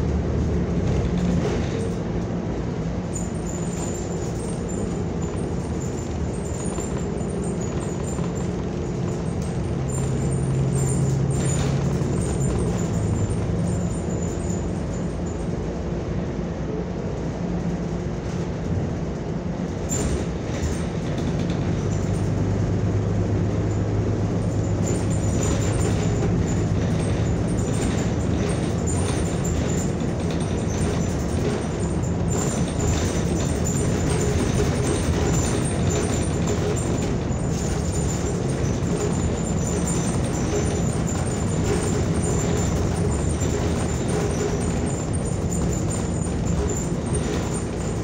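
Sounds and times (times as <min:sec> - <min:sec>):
bus engine low drone: 0:00.0 - 0:48.0
road noise: 0:00.0 - 0:48.0
body and windows rattling: 0:03.4 - 0:15.2, 0:19.9 - 0:48.0.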